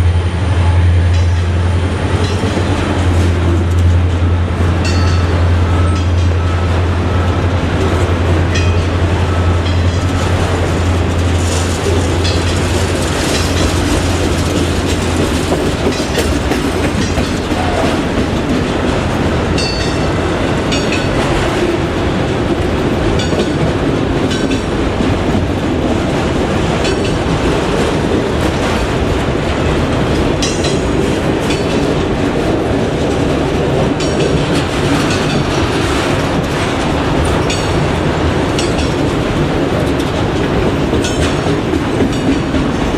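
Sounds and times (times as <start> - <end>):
railroad cars rolling past: 0.0 - 42.9
wheels clicking over rail joints: 7.3 - 42.9.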